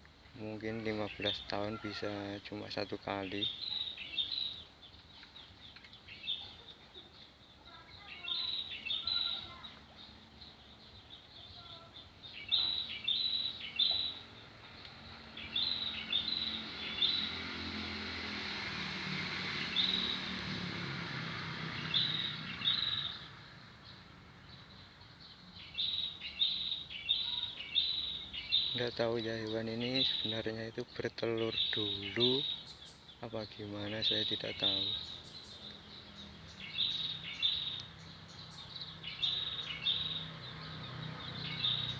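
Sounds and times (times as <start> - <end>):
bird chirping: 0.0 - 18.3, 19.1 - 41.9.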